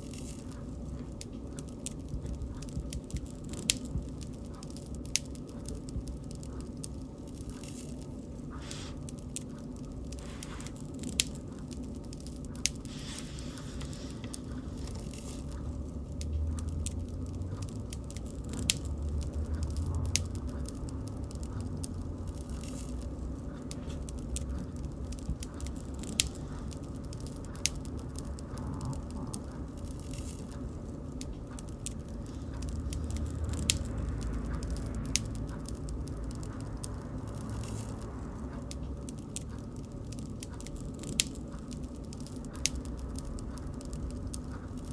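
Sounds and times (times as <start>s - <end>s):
burning wood popping and snapping: 0.0s - 44.9s
low rumble of flames: 0.0s - 44.9s.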